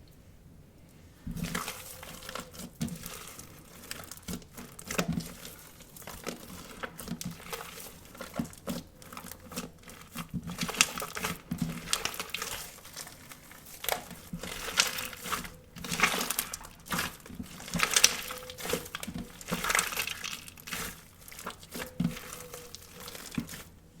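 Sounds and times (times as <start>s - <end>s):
slime squelching: 1.2s - 24.0s.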